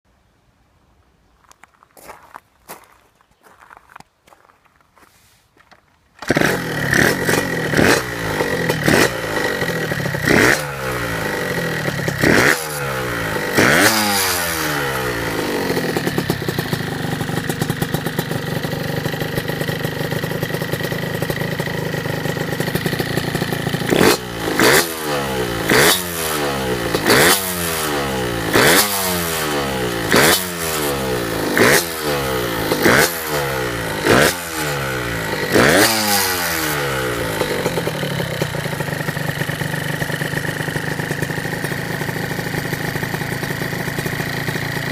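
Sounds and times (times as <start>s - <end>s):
two-stroke minibike engine blipping: 6.2s - 44.9s.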